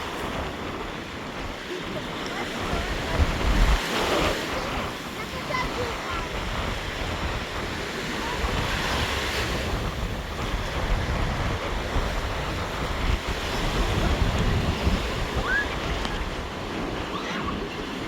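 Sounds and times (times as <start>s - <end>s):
waves breaking on shore: 0.0s - 18.0s
wind buffeting microphone: 0.0s - 18.0s.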